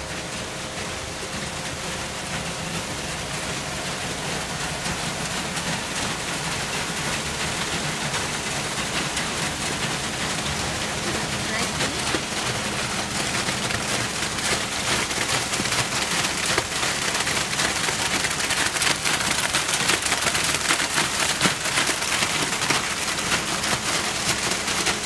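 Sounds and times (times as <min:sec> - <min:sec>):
wet concrete pouring: 0:00.0 - 0:25.0.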